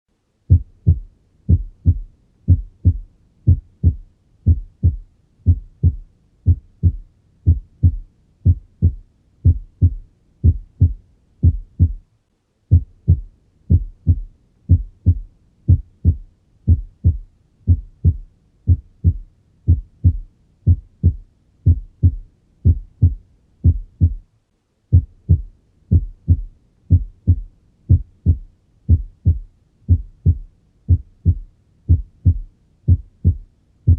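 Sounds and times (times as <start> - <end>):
heartbeat lub-dub: 0.5 - 12.1, 12.7 - 24.3, 24.9 - 33.9.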